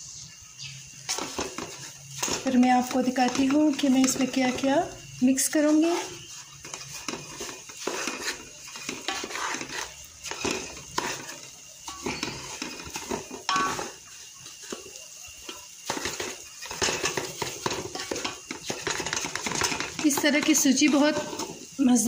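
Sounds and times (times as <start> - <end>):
spatula knocking pan: 1.1 - 21.7
spatula scraping metal pot: 1.1 - 22.0.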